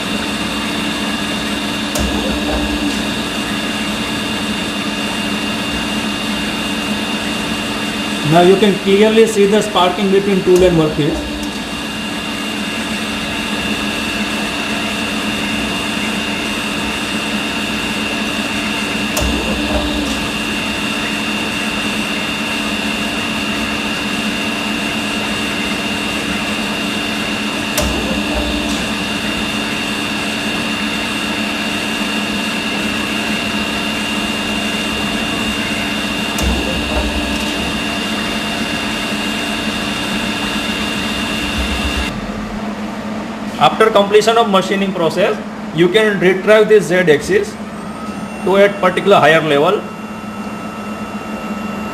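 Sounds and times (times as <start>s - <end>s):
machine hum with high whine: 0.0s - 51.9s.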